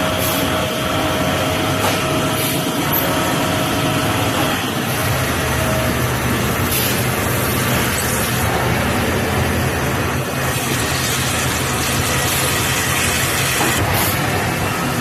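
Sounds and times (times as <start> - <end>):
machine running with whine: 0.0 - 15.0.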